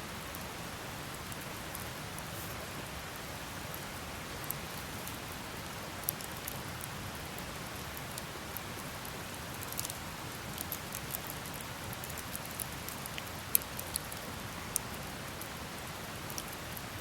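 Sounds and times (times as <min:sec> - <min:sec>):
campfire hissing: 0:00.1 - 0:17.0
fire crackles and pops: 0:00.2 - 0:17.0.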